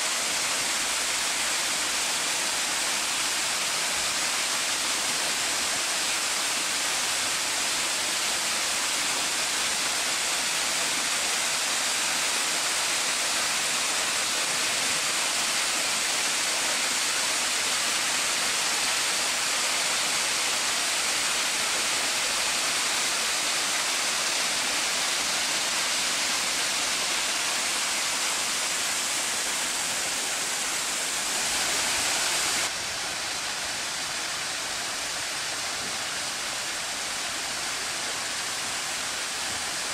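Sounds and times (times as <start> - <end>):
waterfall rushing into pond: 0.0 - 39.9.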